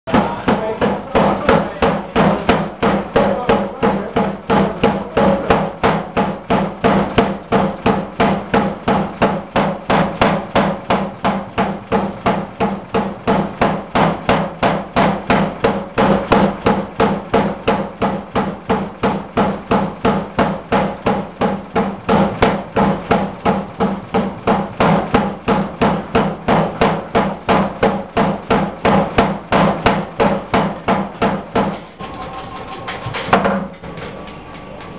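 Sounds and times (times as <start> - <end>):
air hammer striking steel: 0.1 - 34.9
steady hum: 0.1 - 34.9.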